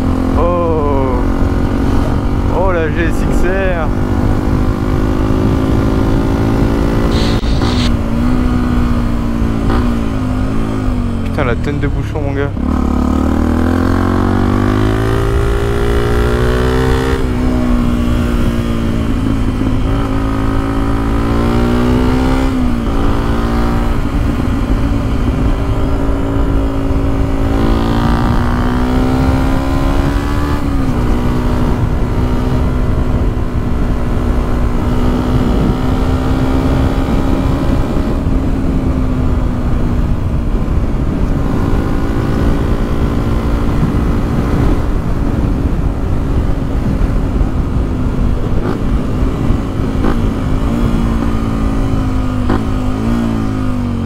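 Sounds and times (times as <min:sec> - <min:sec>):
low wind rumble: 0:00.0 - 0:54.0
motorcycle engine revving: 0:03.5 - 0:11.6, 0:12.4 - 0:54.0.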